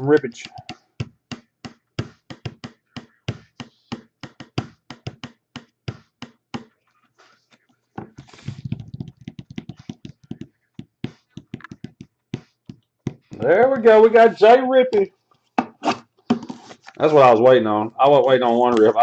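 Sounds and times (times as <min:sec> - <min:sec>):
hands tapping a drumming rhythm: 0:00.0 - 0:06.8, 0:08.0 - 0:16.5.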